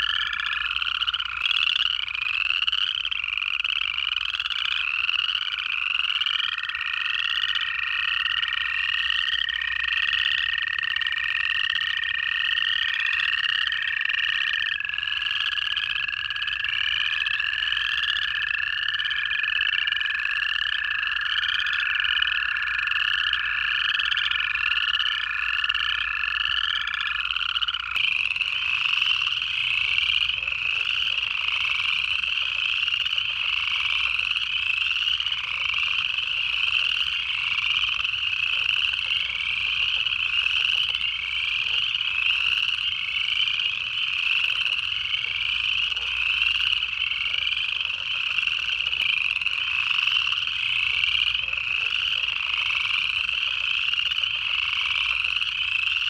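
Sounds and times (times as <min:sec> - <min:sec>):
chorus of frogs trilling: 0:00.0 - 0:56.0.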